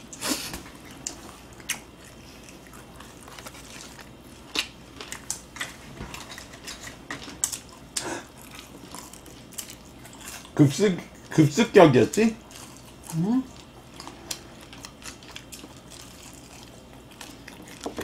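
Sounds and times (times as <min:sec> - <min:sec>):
soft chewing: 0:00.0 - 0:18.0
crispy coating crunching: 0:00.9 - 0:18.0.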